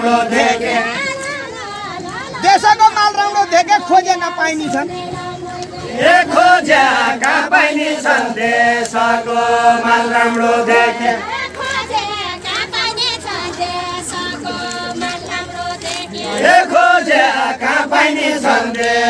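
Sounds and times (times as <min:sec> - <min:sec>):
men singing unaccompanied: 0:00.0 - 0:19.0.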